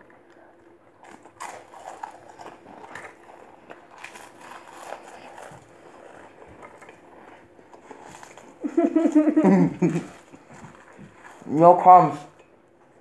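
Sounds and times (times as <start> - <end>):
crackers crunching: 0.0 - 13.0.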